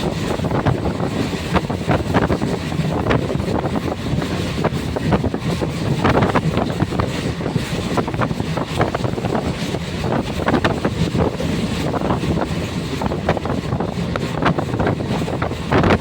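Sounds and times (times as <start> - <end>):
passenger train rumbling: 0.0 - 16.0
wind buffeting microphone: 0.0 - 16.0.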